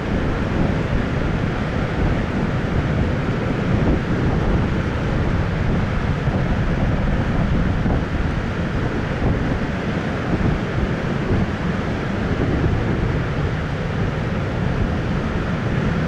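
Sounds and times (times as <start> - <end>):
heavy ocean surf: 0.0 - 16.0
wind buffeting microphone: 0.0 - 16.0.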